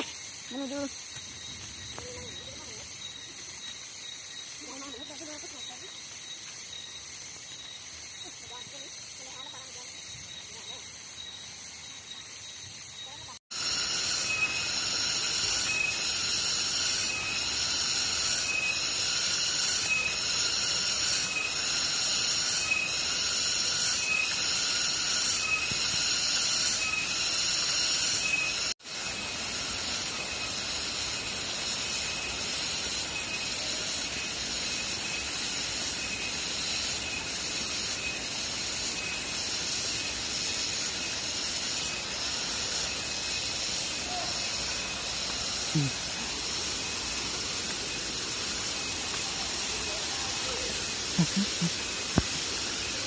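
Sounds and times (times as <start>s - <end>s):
cicada chorus pulsing: 0.0s - 53.0s.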